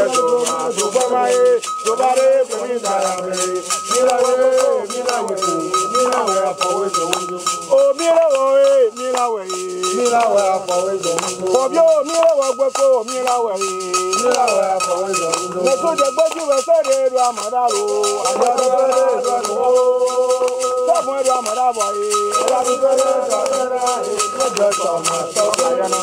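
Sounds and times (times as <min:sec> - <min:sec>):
hand clapping: 0:00.0 - 0:26.0
men chanting: 0:00.0 - 0:26.0
rattle shaking: 0:00.0 - 0:26.0.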